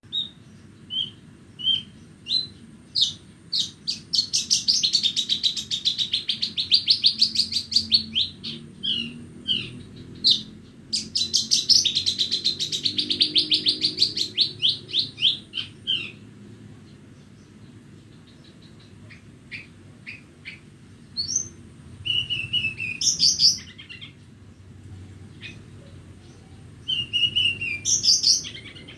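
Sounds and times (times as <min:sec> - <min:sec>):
bushlark singing: 0:00.0 - 0:28.9.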